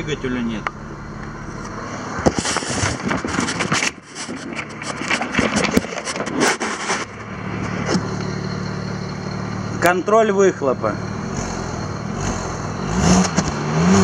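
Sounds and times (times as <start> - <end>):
car engine idling: 0.0 - 13.1.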